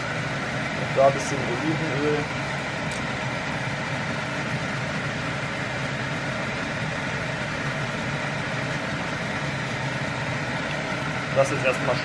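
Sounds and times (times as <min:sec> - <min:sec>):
extractor fan running: 0:00.0 - 0:12.0.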